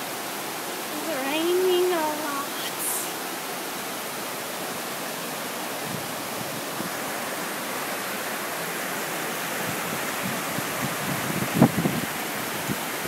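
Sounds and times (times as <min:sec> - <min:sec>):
fast-flowing floodwater: 0:00.0 - 0:13.0
heavy rain: 0:00.0 - 0:13.0.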